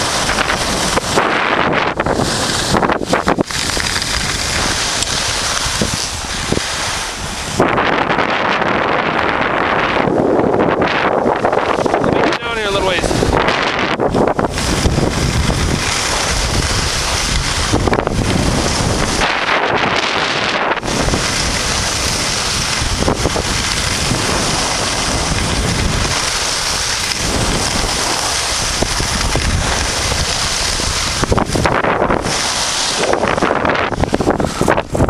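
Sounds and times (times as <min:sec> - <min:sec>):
skis sliding over snow: 0:00.0 - 0:35.0
wind buffeting microphone: 0:00.0 - 0:35.0.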